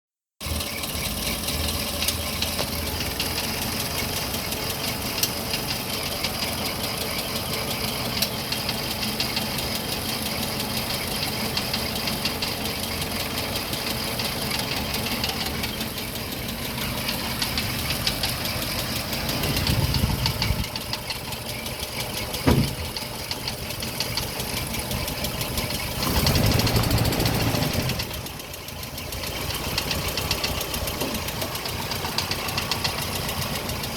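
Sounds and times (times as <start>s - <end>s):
engine running with loud rattle: 0.4s - 33.9s.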